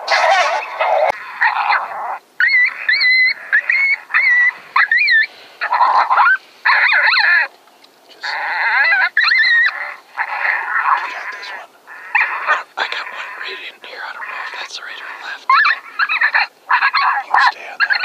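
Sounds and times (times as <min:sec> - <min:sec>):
coyotes yipping and whining: 0:00.0 - 0:18.0.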